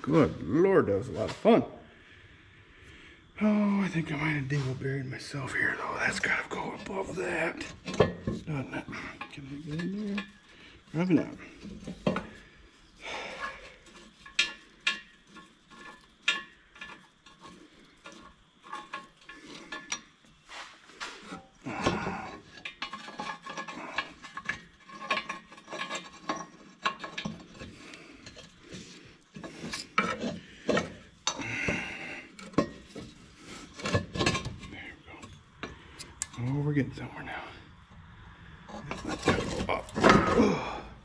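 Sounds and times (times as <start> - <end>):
metallic clinks and scraping of tools: 3.9 - 37.0, 38.6 - 40.8.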